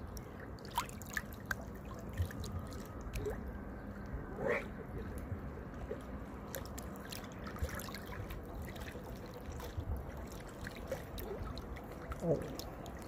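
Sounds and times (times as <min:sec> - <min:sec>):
water lapping against bank: 0:00.0 - 0:03.6, 0:04.3 - 0:13.0
small splashes and drips: 0:00.0 - 0:04.1, 0:05.0 - 0:13.0.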